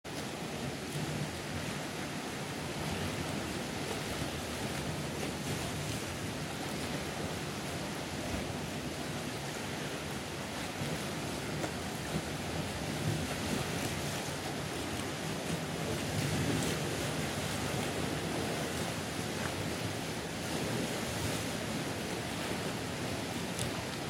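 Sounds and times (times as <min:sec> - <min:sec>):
surf washing among rocks: 0:00.1 - 0:24.0.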